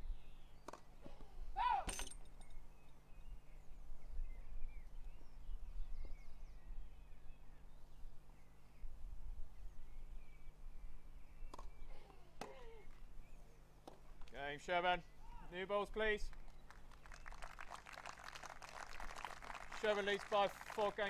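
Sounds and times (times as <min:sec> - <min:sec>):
small birds chirping: 0:00.0 - 0:17.5.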